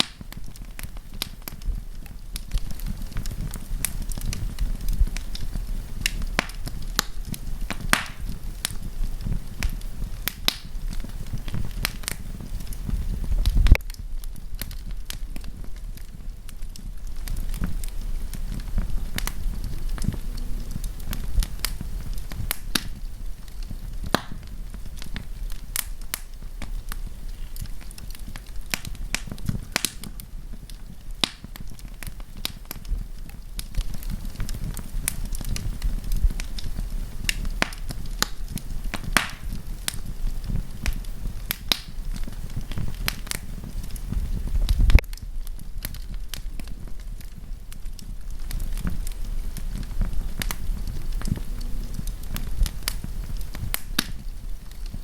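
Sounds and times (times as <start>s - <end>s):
campfire crackling and popping: 0.0s - 55.0s
low fire rumble: 0.0s - 55.0s.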